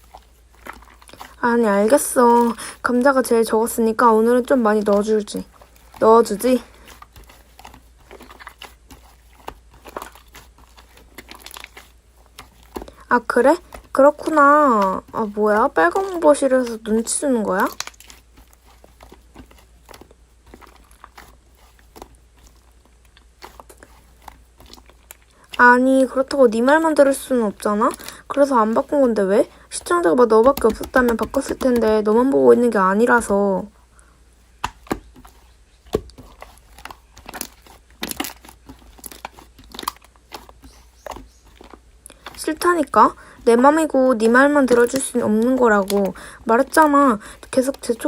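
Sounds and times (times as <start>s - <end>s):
slime clicking and crackling: 0.0s - 33.4s, 34.6s - 48.0s.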